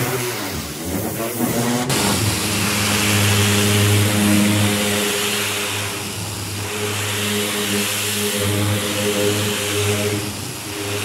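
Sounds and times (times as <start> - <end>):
motor hum: 0.0 - 11.0
pressure washer spray hissing: 0.0 - 11.0.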